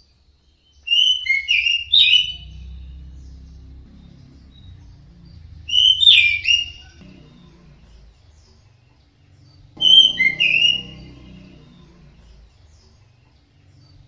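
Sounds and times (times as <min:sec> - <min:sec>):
bird singing whistled notes: 0:00.5 - 0:08.7, 0:09.4 - 0:14.0.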